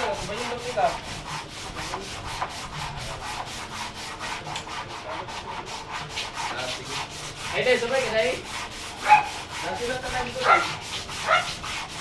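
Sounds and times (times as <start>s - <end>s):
wood being sanded: 0.0s - 12.0s.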